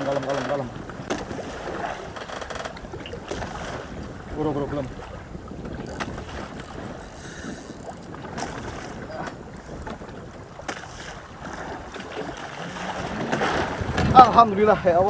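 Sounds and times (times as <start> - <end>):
water washing against boat: 0.0 - 15.0
wind buffeting microphone: 0.0 - 15.0.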